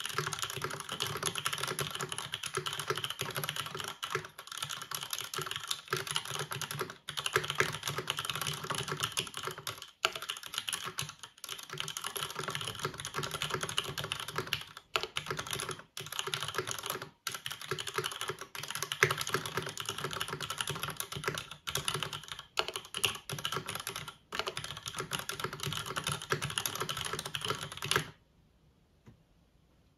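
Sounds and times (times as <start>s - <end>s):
typing on mechanical keyboard: 0.0s - 28.2s.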